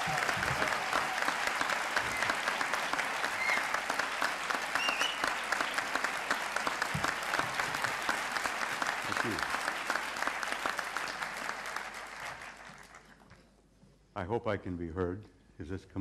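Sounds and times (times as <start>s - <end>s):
crowd applauding: 0.0s - 13.3s.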